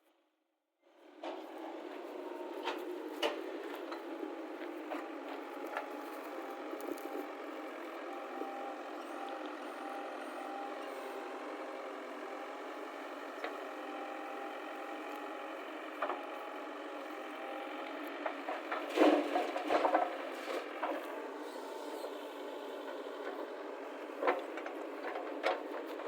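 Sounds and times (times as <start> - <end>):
backhoe loader engine running: 1.0 - 26.0.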